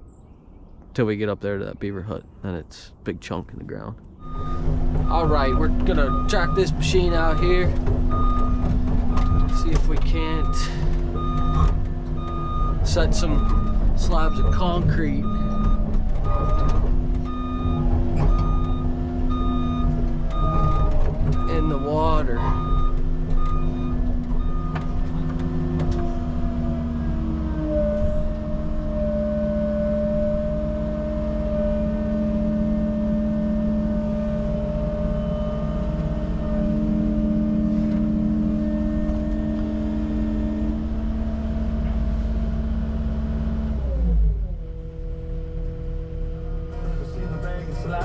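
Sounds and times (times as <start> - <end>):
construction machine engine running: 4.2 - 48.0.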